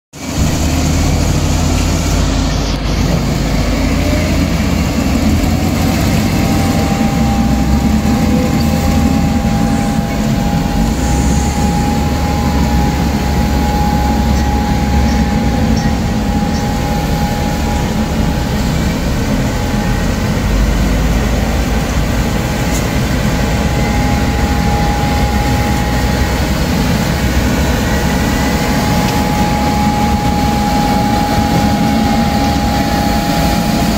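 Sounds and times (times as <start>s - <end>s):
sweeper truck low drone: 0.2s - 33.9s
thin steady whine: 0.2s - 33.9s.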